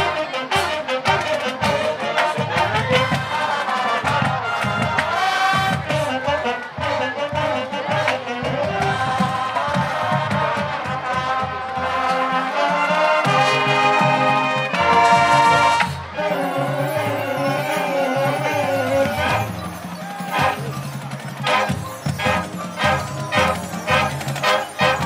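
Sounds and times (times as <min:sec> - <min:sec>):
marching band playing: 0:00.0 - 0:25.0
marching percussion beat: 0:00.0 - 0:25.0.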